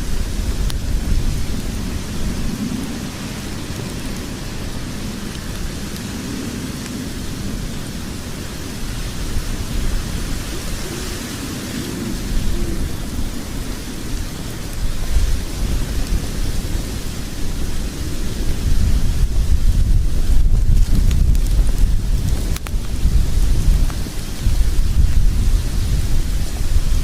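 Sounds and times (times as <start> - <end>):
log fire burning: 0.0 - 27.0.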